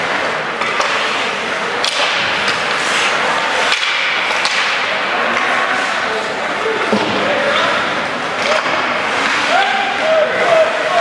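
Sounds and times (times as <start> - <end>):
hockey sticks clacking: 0.0 - 11.0
skates scraping on ice: 0.0 - 11.0.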